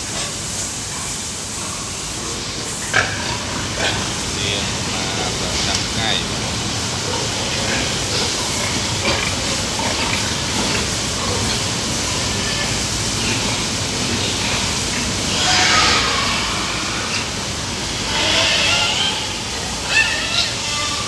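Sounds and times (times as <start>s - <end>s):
pig squealing: 0.8s - 21.0s.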